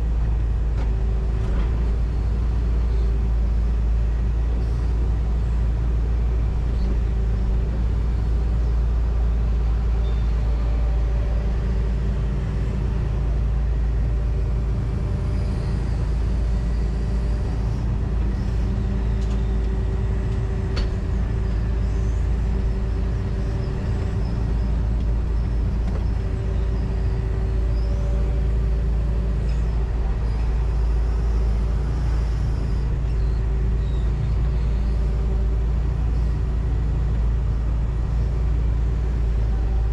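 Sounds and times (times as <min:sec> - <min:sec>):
excavator diesel engine rumble: 0:00.0 - 0:39.9.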